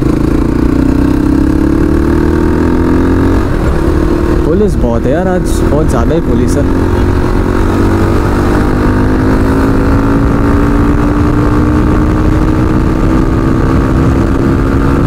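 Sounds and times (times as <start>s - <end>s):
low wind rumble on microphone: 0.0s - 15.0s
motorcycle engine accelerating: 0.0s - 15.0s.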